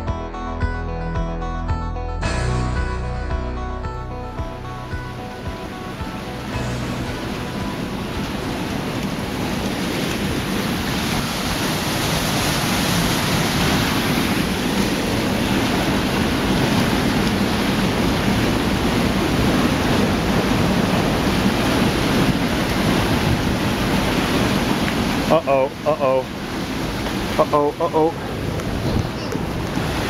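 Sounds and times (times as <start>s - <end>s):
whitewater rapids roaring: 5.2s - 30.0s.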